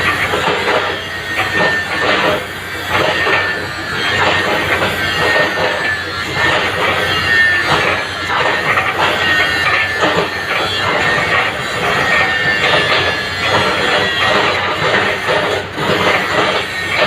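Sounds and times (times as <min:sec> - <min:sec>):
clanking and crunching: 0:00.0 - 0:17.0
excavator engine under load: 0:00.0 - 0:17.0
high metallic squeal: 0:00.0 - 0:17.0.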